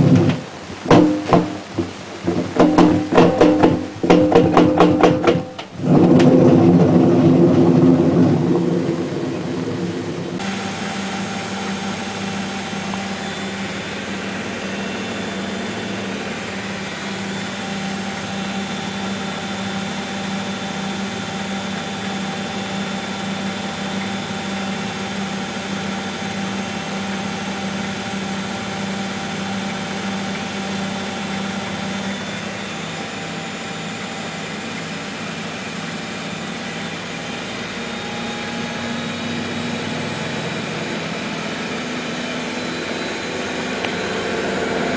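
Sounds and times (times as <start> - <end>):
washing machine motor whirring: 0.0 - 44.9.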